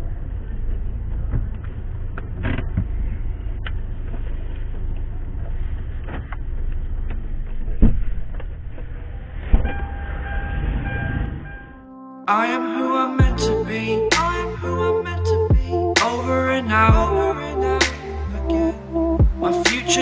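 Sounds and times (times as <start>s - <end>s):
vehicle cab low rumble: 0.0s - 10.4s, 13.2s - 20.0s.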